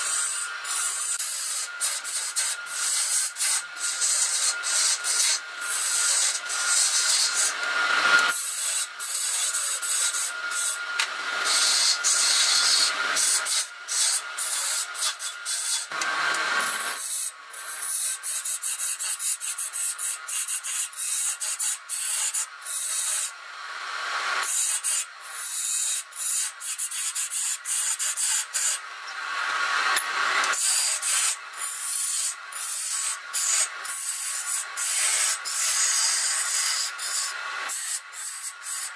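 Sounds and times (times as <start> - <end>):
wood lathe gouge cutting: 0.0 - 19.1, 20.3 - 26.3, 27.2 - 38.9.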